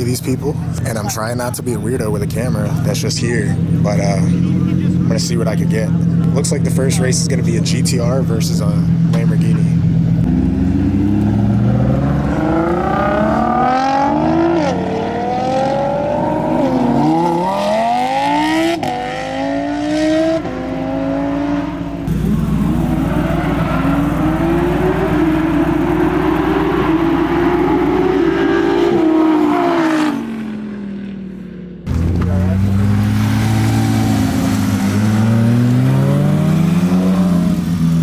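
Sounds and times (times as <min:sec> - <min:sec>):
car engines accelerating hard: 0:00.0 - 0:31.1, 0:31.8 - 0:38.0.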